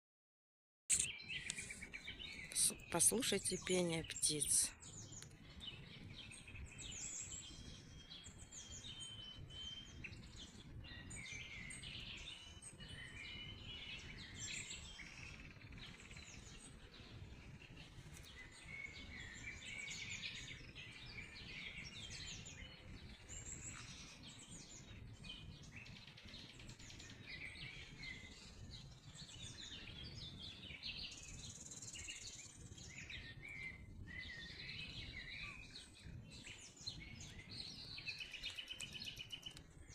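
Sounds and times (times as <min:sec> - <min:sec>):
songbirds chirping and trilling: 0:00.9 - 0:39.9.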